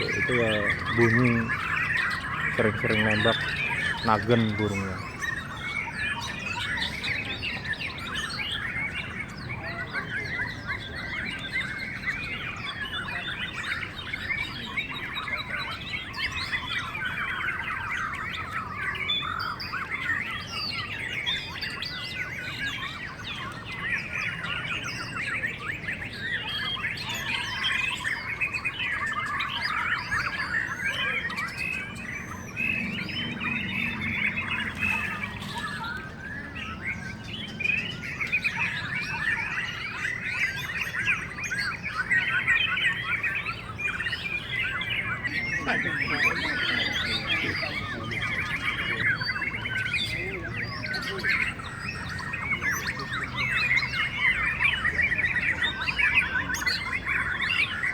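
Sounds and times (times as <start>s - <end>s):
songbirds whistling and chirping: 0.0s - 57.9s.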